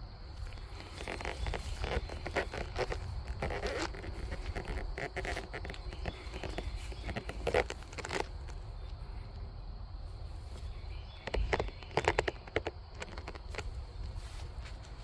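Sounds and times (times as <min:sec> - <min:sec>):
low steady rumble: 0:00.0 - 0:15.0
footsteps on dry grass: 0:00.3 - 0:08.9, 0:10.1 - 0:15.0.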